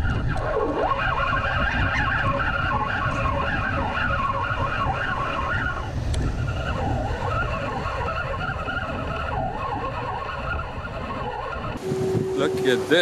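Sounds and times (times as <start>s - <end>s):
wavering high sounds: 0.0s - 13.0s
wind rumbling on microphone: 0.0s - 13.0s.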